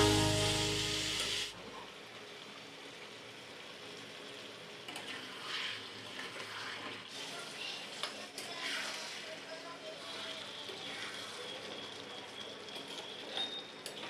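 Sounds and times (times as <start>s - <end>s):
water hissing in hot pan: 0.0s - 1.5s, 2.1s - 12.3s
faint sizzling in a pan: 0.0s - 14.0s.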